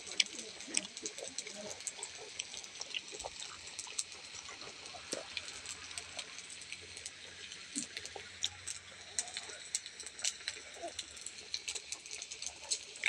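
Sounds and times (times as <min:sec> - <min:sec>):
broth bubbling: 0:00.0 - 0:13.0
small pops and crackles: 0:00.0 - 0:13.0.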